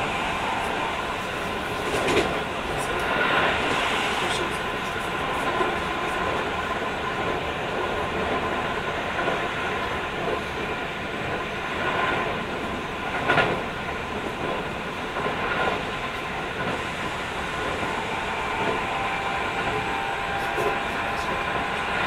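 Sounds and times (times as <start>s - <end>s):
train wheel clack: 0.0s - 6.6s, 7.2s - 22.0s
train wheels rumbling on rails: 0.0s - 22.0s.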